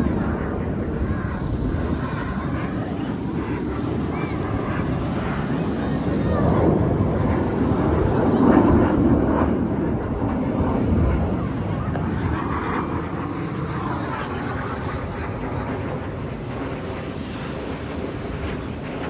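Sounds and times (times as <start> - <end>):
distant jet flying past: 0.0 - 19.0.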